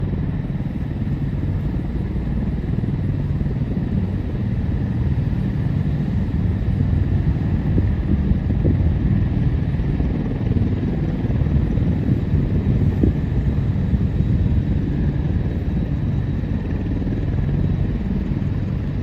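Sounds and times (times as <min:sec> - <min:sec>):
helicopter rotor chop: 0:00.0 - 0:19.0.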